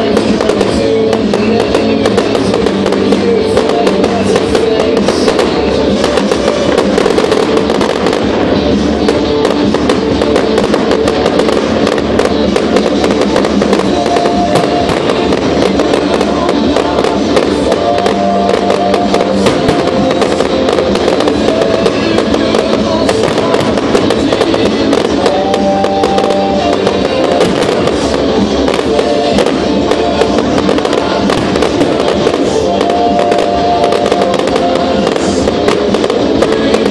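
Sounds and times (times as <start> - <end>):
fireworks crackling and popping: 0.0 - 36.9
loud music with held notes: 0.0 - 36.9.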